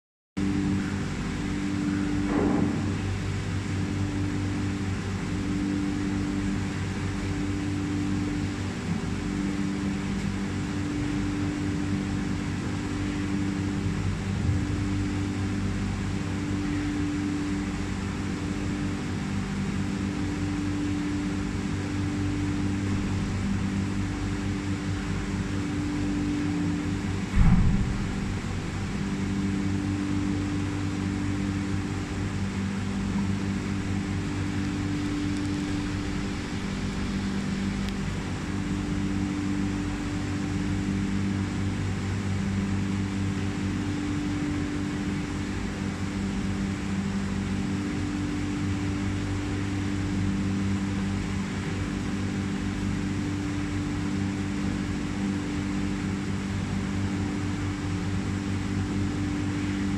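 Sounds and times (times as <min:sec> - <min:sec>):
machine hum: 0:00.4 - 0:59.9.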